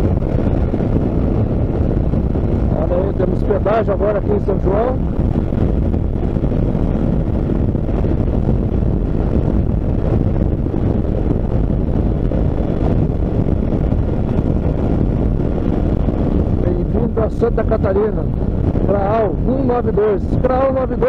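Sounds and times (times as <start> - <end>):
motorcycle engine: 0.0 - 21.0
wind rush over microphone: 0.0 - 21.0.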